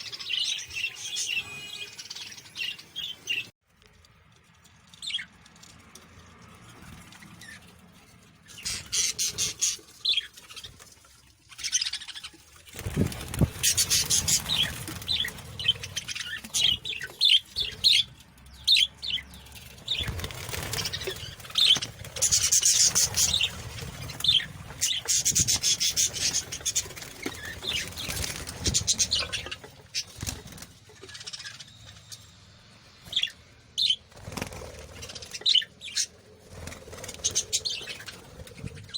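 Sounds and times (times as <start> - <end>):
small birds chirping: 0.0 - 3.5, 6.6 - 10.9, 11.5 - 38.9
wings flapping and fluttering: 0.0 - 31.6, 33.0 - 38.9.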